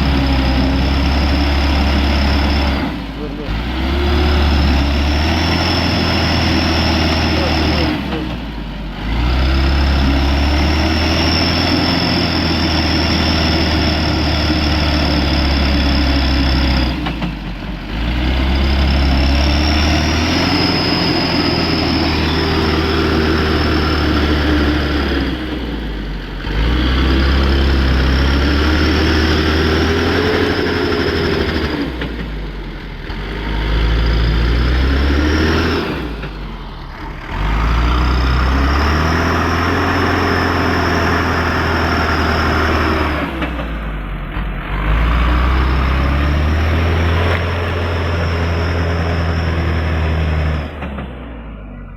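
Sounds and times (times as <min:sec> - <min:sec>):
diesel truck engine revving hard: 0:00.0 - 0:51.7.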